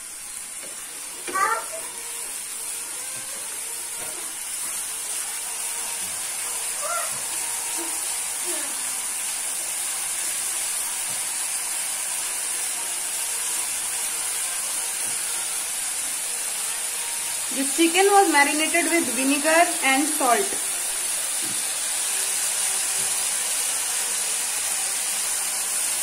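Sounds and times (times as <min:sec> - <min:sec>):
paste sizzling in hot oil: 0:00.0 - 0:26.0.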